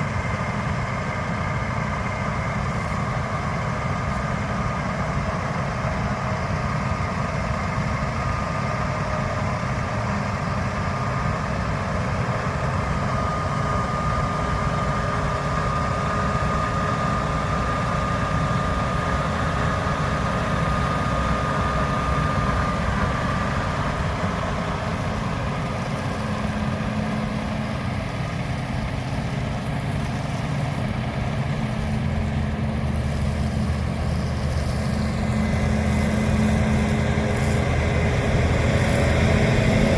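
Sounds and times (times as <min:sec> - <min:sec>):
deep engine hum: 0:00.0 - 0:39.9
heavy diesel machinery running: 0:00.0 - 0:39.9.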